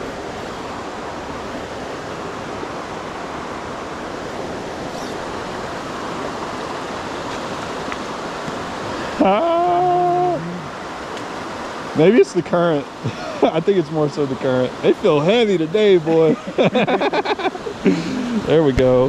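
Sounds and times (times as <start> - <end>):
creek rushing: 0.0 - 19.0.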